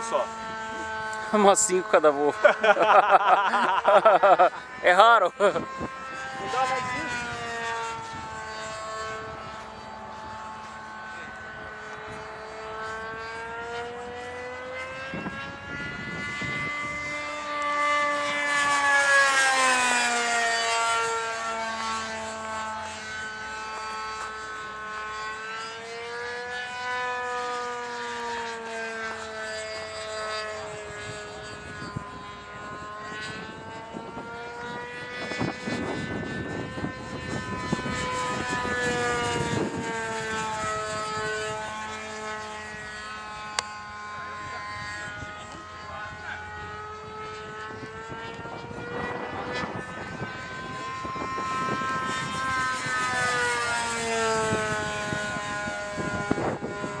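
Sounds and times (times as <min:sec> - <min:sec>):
wind buffeting microphone: 0:00.0 - 0:19.2, 0:28.8 - 0:57.0
model airplane engine passing: 0:00.0 - 0:57.0.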